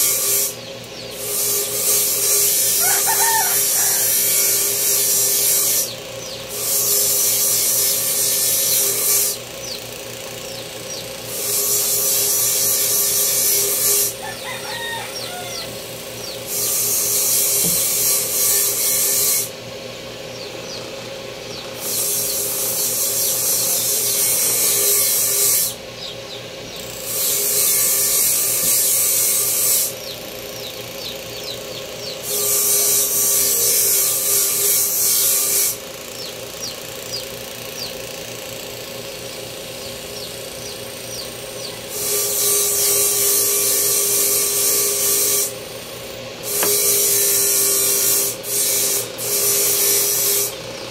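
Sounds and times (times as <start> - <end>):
motor hum: 0.0 - 50.9
power tool grinding blade: 0.0 - 50.9.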